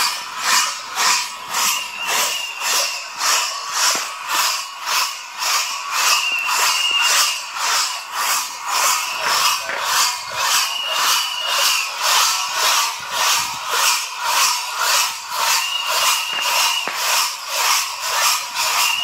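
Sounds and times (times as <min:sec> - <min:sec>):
whistle blasts: 0:00.0 - 0:19.0.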